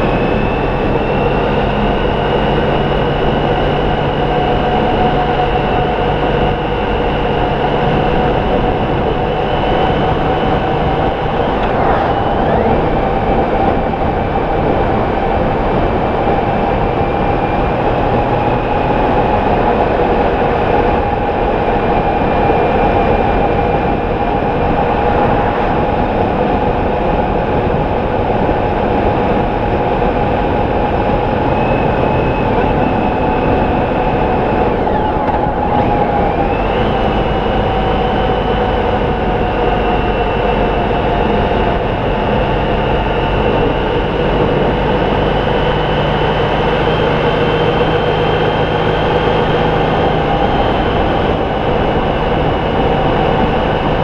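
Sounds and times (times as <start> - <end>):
motorcycle engine drone: 0.0 - 54.0
wind rush over microphone: 0.0 - 54.0.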